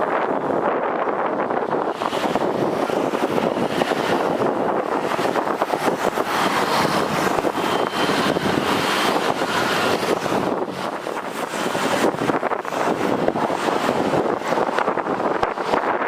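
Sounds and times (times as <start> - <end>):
jet engine noise: 0.0 - 16.0
wind buffeting microphone: 0.0 - 16.0.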